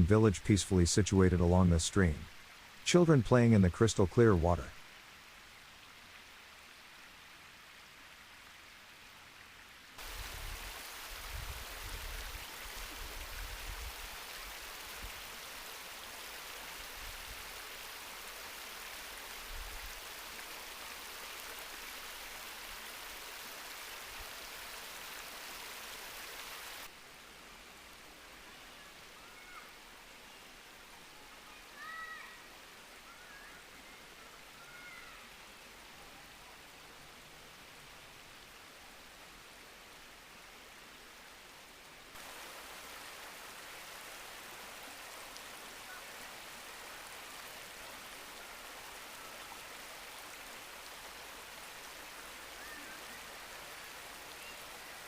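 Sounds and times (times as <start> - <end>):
mountain stream rushing: 0.0 - 55.0
quiet water ambience: 0.0 - 55.0.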